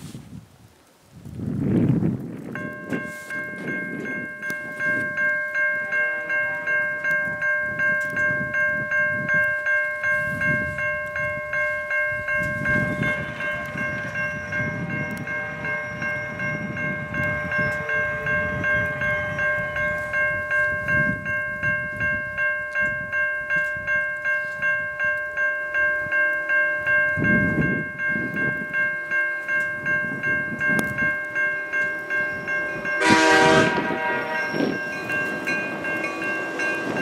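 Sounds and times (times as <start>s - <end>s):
level crossing warning bell: 2.4s - 37.0s.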